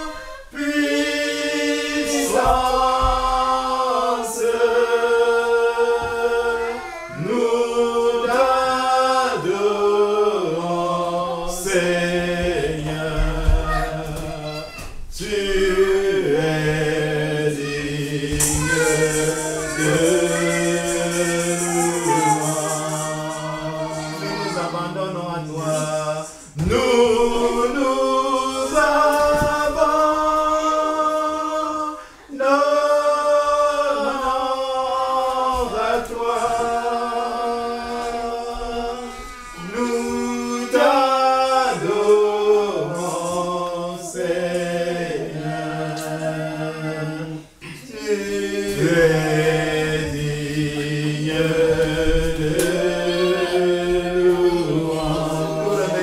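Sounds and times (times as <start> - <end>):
unaccompanied group singing: 0.0 - 56.0.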